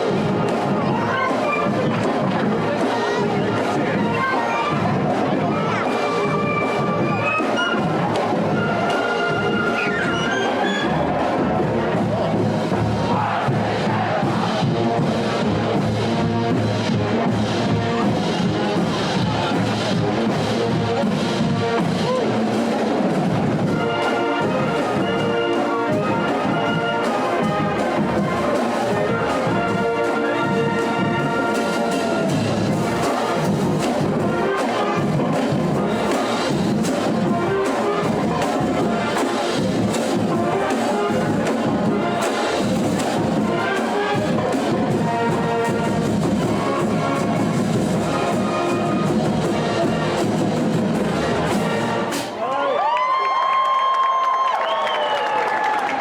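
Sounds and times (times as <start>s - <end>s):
brass section playing: 0.0s - 52.4s
marching drums: 0.0s - 52.4s.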